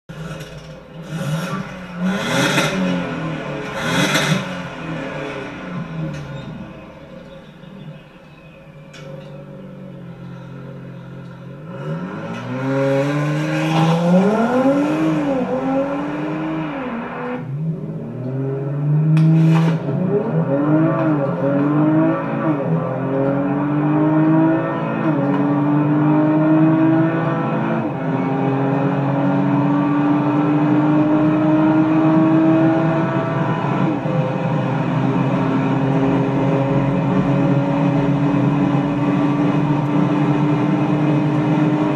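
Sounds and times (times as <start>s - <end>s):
car engine accelerating: 0.1s - 41.9s.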